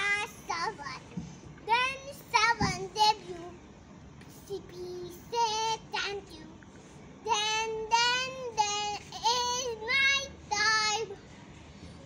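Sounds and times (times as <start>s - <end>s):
young child singing: 0.0s - 3.6s, 4.2s - 6.6s, 7.2s - 11.2s.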